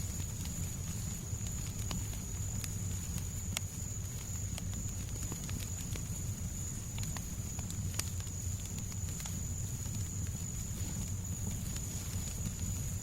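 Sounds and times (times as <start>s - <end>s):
faint high whine: 0.0s - 13.0s
fire crackling and popping: 0.0s - 13.0s.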